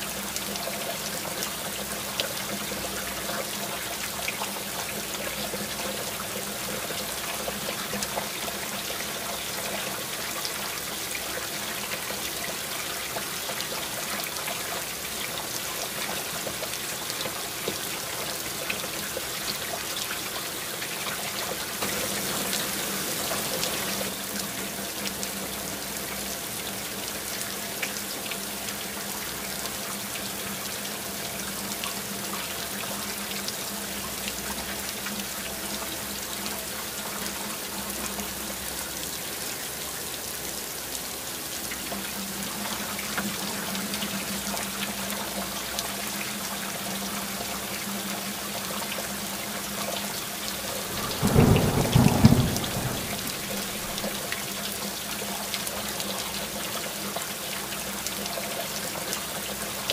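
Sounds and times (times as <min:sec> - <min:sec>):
heavy rain on metal roofs: 0:00.0 - 0:59.9
water pouring off roof: 0:00.0 - 0:59.9.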